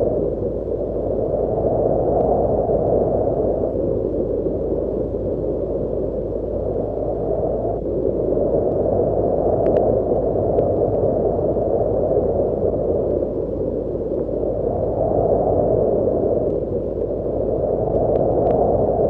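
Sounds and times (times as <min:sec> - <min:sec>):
gentle breeze: 0:00.0 - 0:19.0.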